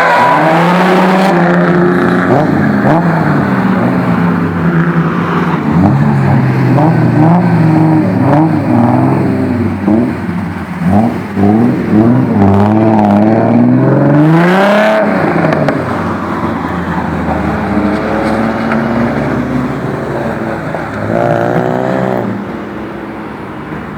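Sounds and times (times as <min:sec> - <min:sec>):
car engine revving: 0:00.0 - 0:23.1.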